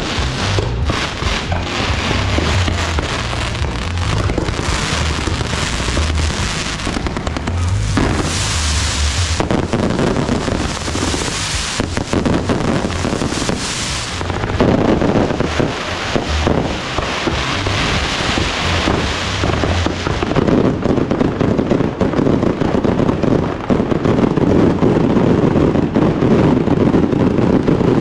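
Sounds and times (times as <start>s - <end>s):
firecrackers crackling: 0.0s - 28.0s.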